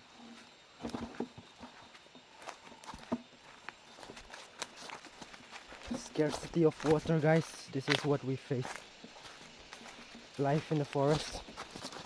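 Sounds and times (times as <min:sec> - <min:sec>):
footsteps on wet forest ground: 0:00.0 - 0:12.0.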